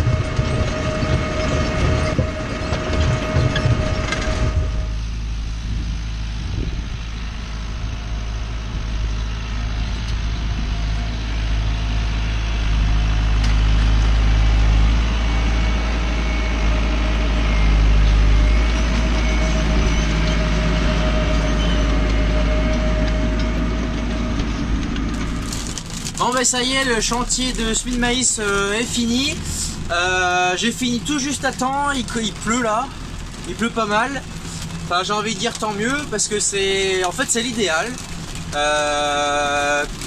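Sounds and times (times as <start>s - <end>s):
tractor engine droning: 0.0s - 40.0s.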